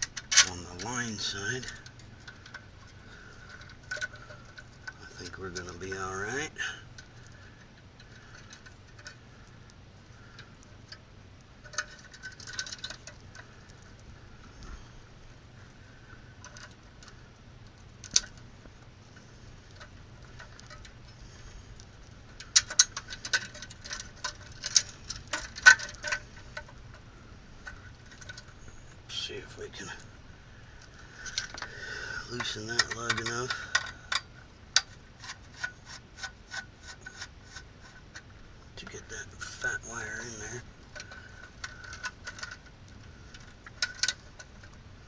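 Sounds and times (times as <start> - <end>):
clicks and metallic rattles: 0.0 - 9.5, 11.6 - 15.0, 16.1 - 30.1, 30.8 - 44.9
faint low hum: 0.0 - 45.0.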